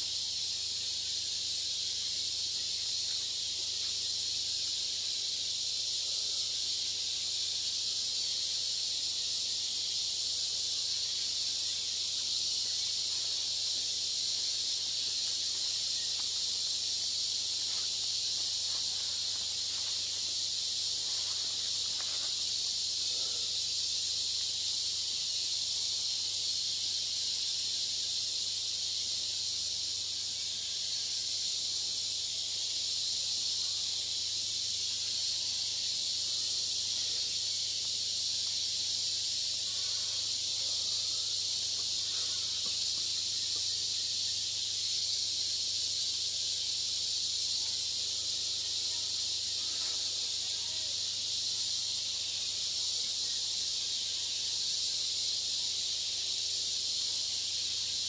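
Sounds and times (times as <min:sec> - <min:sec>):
insect chorus hissing: 0:00.0 - 0:58.0.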